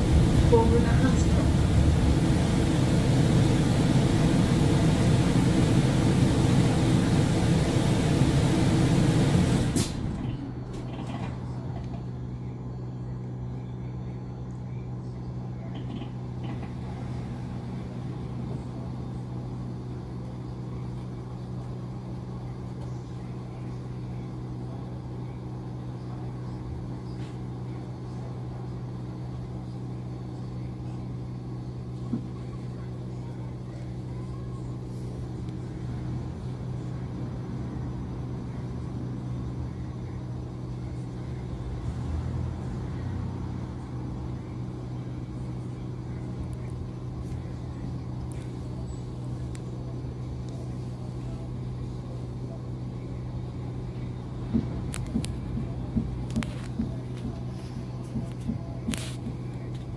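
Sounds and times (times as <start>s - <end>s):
bus drivetrain hum: 0.0s - 59.9s.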